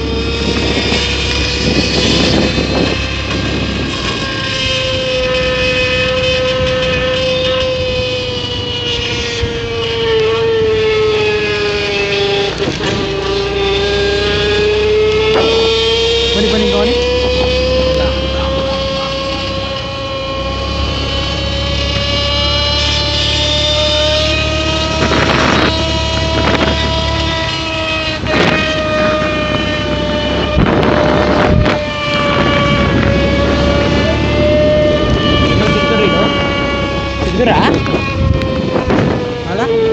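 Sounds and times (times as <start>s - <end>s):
scooter engine whining: 0.0s - 39.9s.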